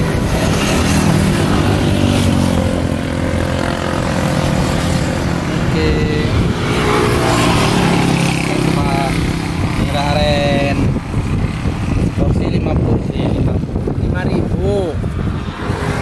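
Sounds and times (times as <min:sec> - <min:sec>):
motorbike engines passing: 0:00.0 - 0:16.0.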